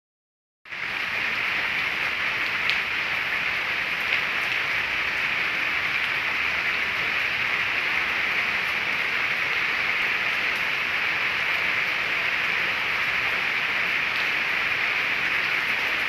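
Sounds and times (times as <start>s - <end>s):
steady rain hiss: 0.7s - 16.0s.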